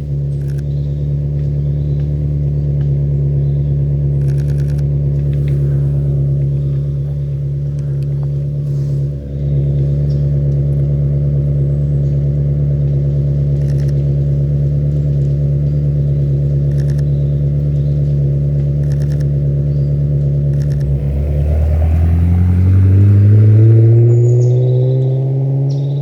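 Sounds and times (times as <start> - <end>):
sports car engine running: 0.0 - 26.0.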